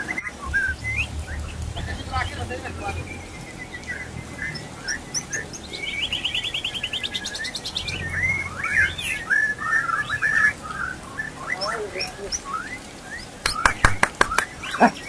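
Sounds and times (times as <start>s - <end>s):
bird whistling song: 0.0s - 15.0s.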